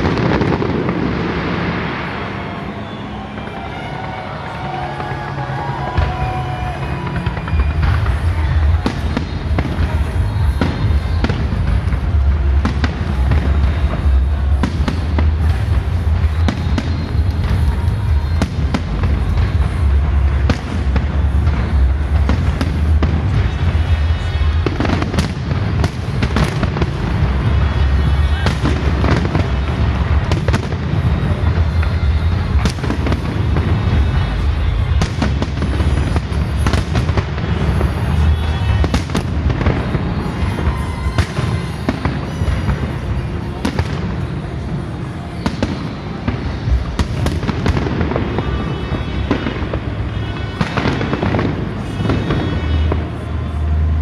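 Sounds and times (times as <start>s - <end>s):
firework bangs and crackles: 0.0s - 54.0s
music playing: 0.0s - 54.0s.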